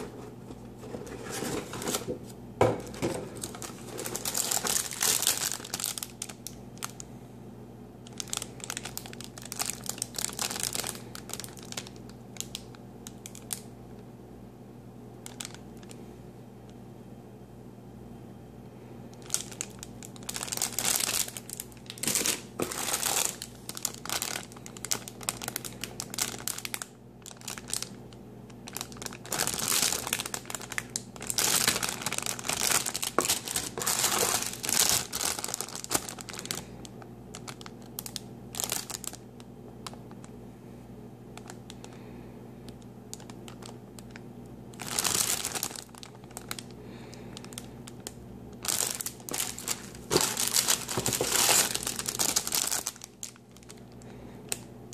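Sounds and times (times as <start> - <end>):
plastic bags crinkling: 0.0 - 7.0, 8.0 - 13.7, 15.2 - 16.0, 19.1 - 40.3, 41.4 - 42.0, 42.7 - 54.7.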